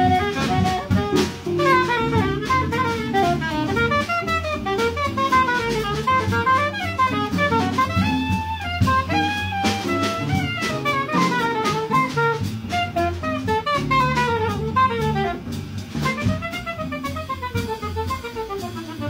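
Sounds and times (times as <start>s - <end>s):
drum kit with cymbals: 0.0s - 19.0s
saxophone solo: 0.0s - 19.0s.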